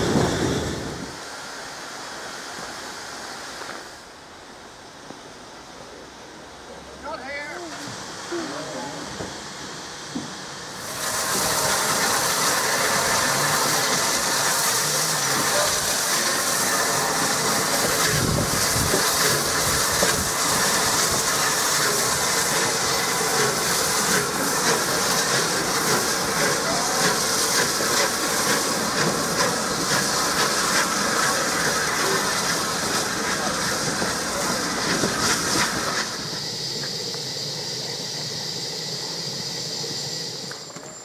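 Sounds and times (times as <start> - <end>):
steam hissing: 0.0 - 41.0
train coaches running on rails: 0.0 - 41.0.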